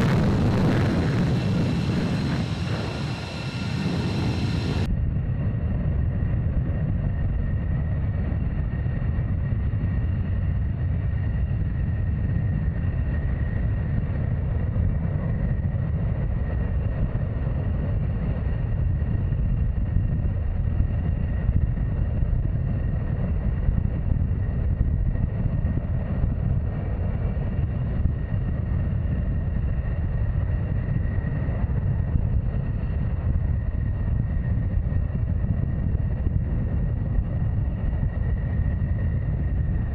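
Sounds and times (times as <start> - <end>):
jet engine rumble and whine: 0.0 - 39.9.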